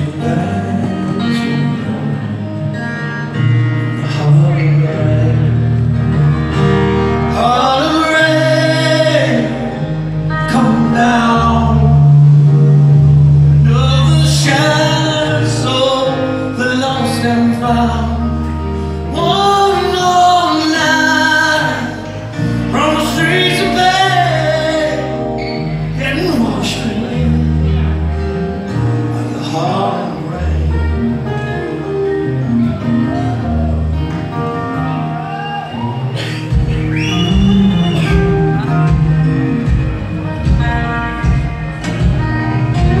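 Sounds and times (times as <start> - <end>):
guitar: 0.0 - 43.0
held bass notes: 0.0 - 43.0
person singing: 0.0 - 43.0.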